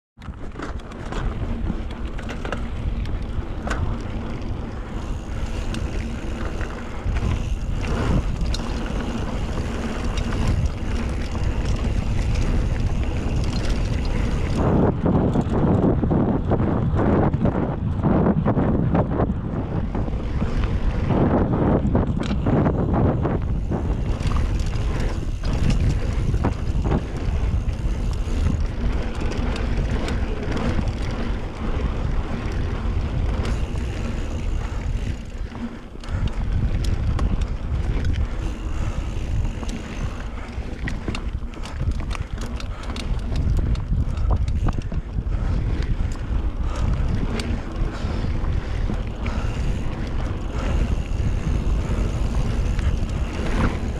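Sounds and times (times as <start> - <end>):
bike clicking and rattling: 0.2 - 53.9
wind buffeting microphone: 0.2 - 53.9.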